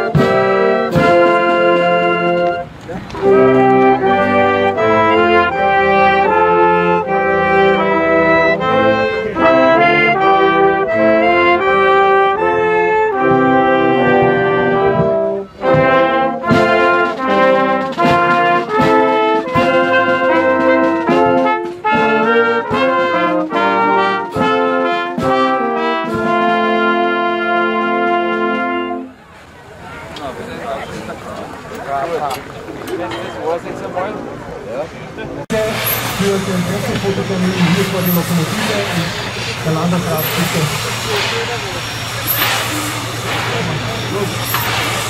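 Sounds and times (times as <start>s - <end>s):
brass band playing: 0.0s - 30.8s, 35.5s - 45.0s.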